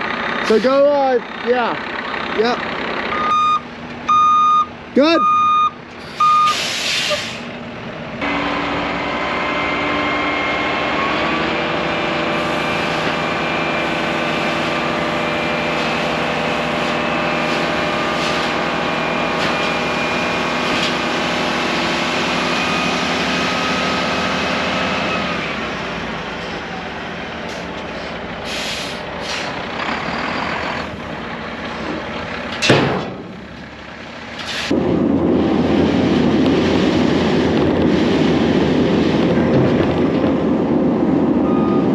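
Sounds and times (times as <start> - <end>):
truck engine revving: 0.0 - 41.9
loud rushing rumble: 5.8 - 41.9.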